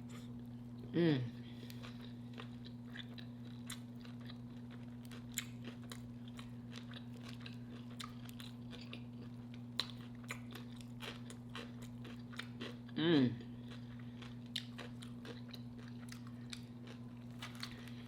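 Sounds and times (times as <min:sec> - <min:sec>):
steady low hum: 0:00.0 - 0:18.0
crunchy chewing: 0:01.6 - 0:18.0.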